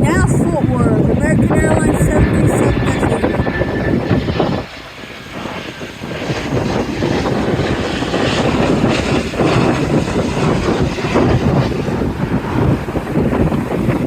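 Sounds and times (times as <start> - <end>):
jet engine noise: 0.0 - 14.0
wind buffeting microphone: 0.0 - 14.0.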